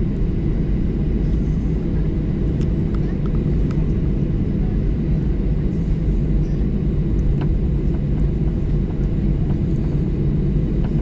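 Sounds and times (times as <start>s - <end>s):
airplane engine cabin rumble: 0.0s - 11.0s.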